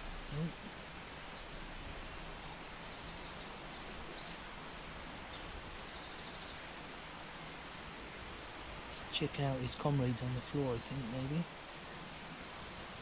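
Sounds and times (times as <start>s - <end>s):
woodland outdoor hiss: 0.0s - 13.0s.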